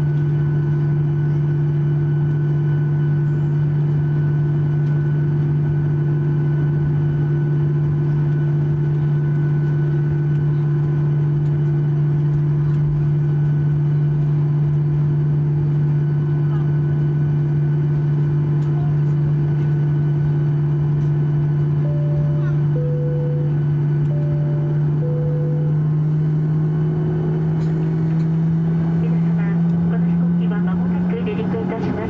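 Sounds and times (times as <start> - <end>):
aircraft cabin engine hum: 0.0 - 32.0.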